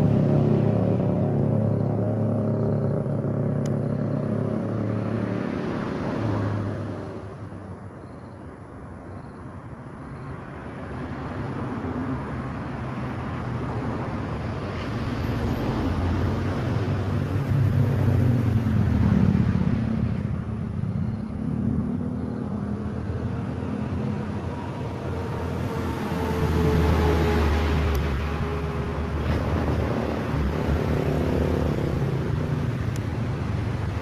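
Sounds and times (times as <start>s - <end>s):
road traffic rumble: 0.0s - 34.0s
vehicles passing: 0.0s - 34.0s.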